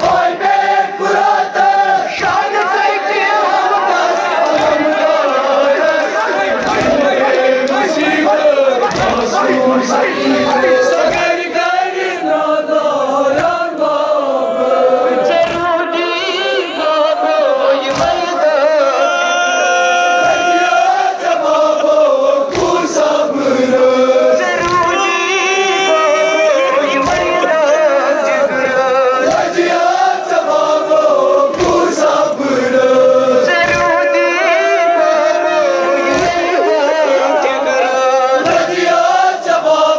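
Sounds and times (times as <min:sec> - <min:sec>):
rhythmic thuds: 0:00.0 - 0:12.0, 0:13.2 - 0:14.0, 0:15.2 - 0:16.1, 0:17.8 - 0:18.6, 0:21.6 - 0:39.9
group of voices chanting: 0:00.0 - 0:39.9.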